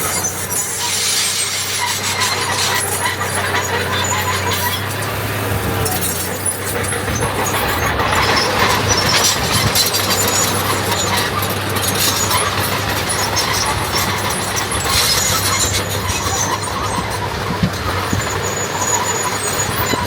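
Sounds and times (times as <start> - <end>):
diesel machinery engine running: 0.0 - 20.0
high-pitched metallic squeals: 0.0 - 20.0.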